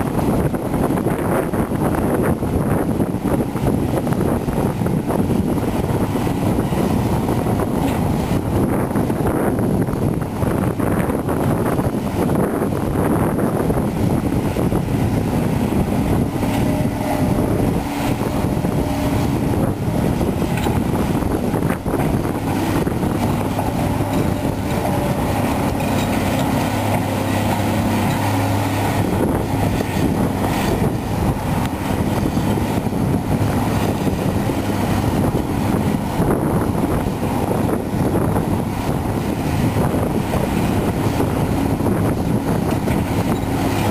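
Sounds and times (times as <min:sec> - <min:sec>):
excavator diesel engine under load: 0:00.0 - 0:43.9.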